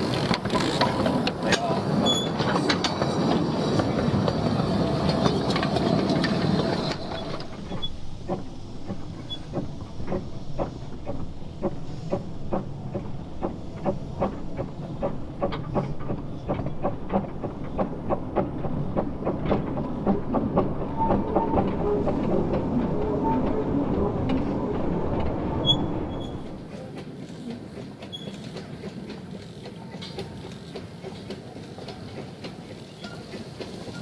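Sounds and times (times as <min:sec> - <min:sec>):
steam locomotive running: 0:00.0 - 0:34.0
wheels clicking over rail joints: 0:00.0 - 0:34.0.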